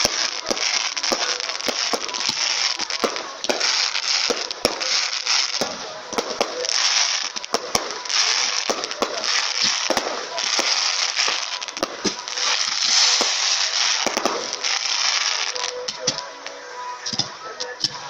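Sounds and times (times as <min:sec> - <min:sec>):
fireworks bangs: 0:00.0 - 0:18.0
fireworks crackling hiss: 0:00.0 - 0:18.0.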